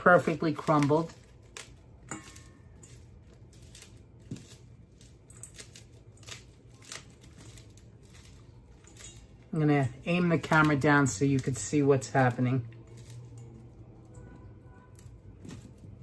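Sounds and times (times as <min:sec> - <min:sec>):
hands crumbling soaked bread: 0:00.0 - 0:16.0.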